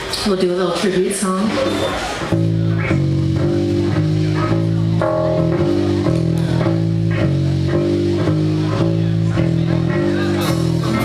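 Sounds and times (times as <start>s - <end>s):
blues band playing: 0.9s - 11.0s
guitars playing low riff: 1.6s - 11.0s.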